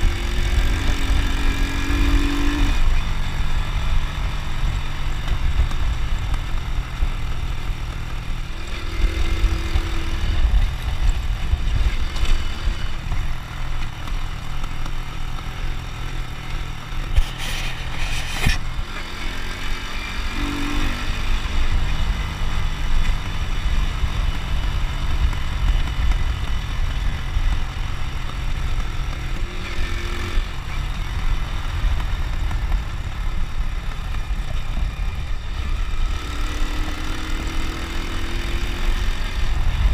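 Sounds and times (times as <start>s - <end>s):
wind rumbling on microphone: 0.0s - 14.0s, 16.6s - 18.9s, 20.2s - 39.9s
motorcycle engine running: 0.0s - 39.9s.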